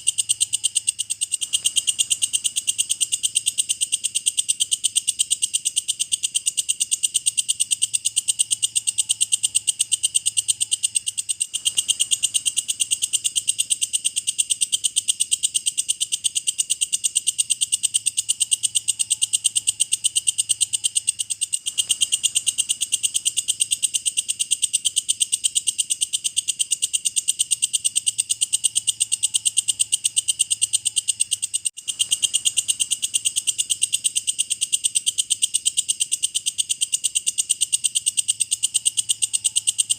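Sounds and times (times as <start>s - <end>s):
insect chirring: 0.0s - 39.9s.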